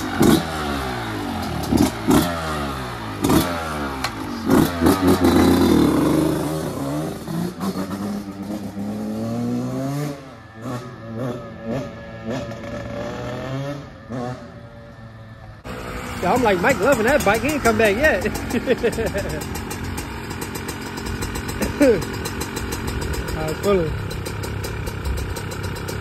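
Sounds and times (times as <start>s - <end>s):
dirt bike engine revving: 0.0s - 14.9s, 15.6s - 26.0s.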